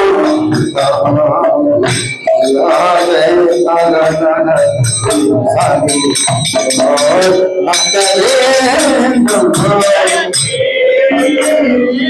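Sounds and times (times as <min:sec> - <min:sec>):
hand drum beating: 0:00.0 - 0:10.6
man chanting into a microphone: 0:00.0 - 0:12.0
metallic percussion strikes: 0:00.0 - 0:12.0.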